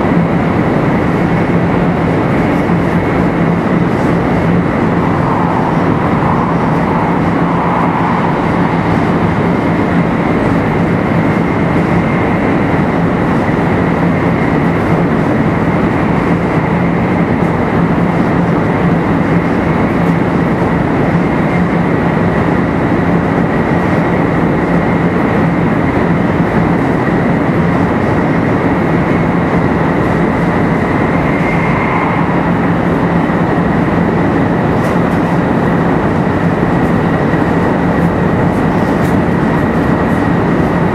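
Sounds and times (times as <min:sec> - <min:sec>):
steady high whine: 0:00.0 - 0:40.9
steady low hum: 0:00.0 - 0:40.9
train wheel and air rush: 0:00.0 - 0:40.9.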